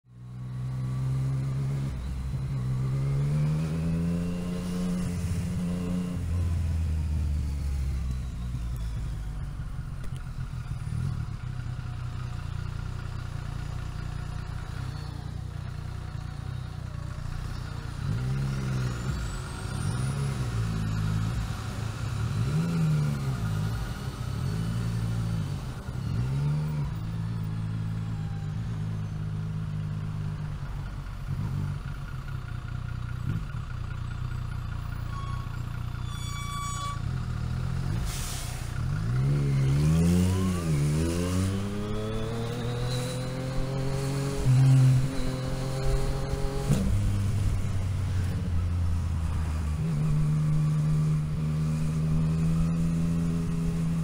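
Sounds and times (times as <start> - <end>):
motorcycle engine revving: 0.2 - 30.4, 38.8 - 54.0.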